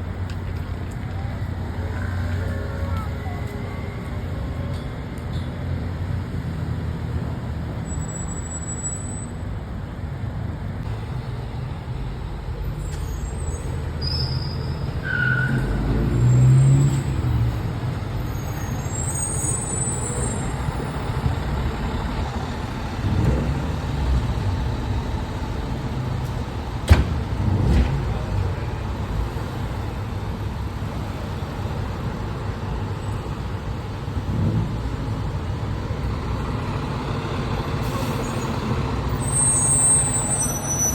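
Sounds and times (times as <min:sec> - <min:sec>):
diesel engine rumbling: 0:00.0 - 0:40.9
road traffic: 0:00.0 - 0:40.9.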